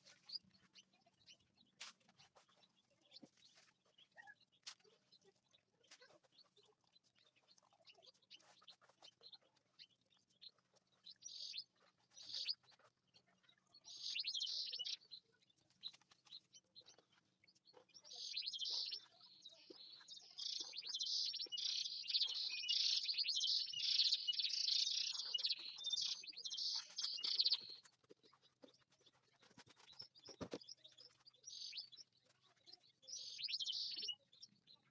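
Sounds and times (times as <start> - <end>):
canary singing: 5.4 - 34.9.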